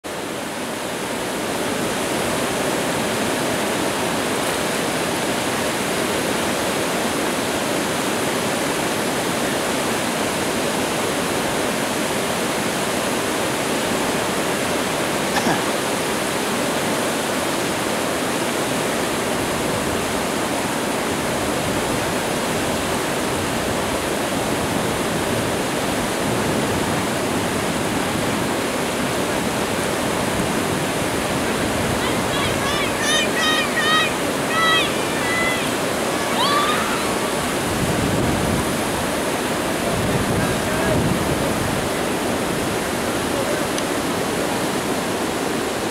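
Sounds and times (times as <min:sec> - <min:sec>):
whitewater roaring over rocks: 0:00.0 - 0:45.9.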